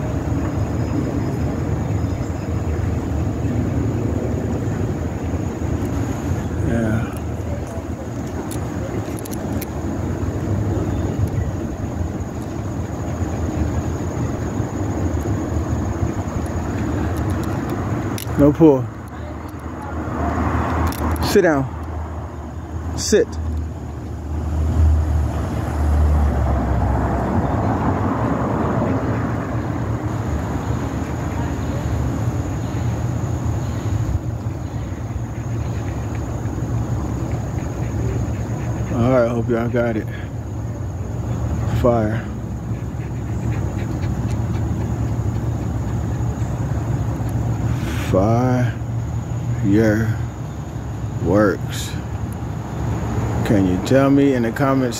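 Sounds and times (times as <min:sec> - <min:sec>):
low fluttering outdoor rumble: 0:00.0 - 0:54.9.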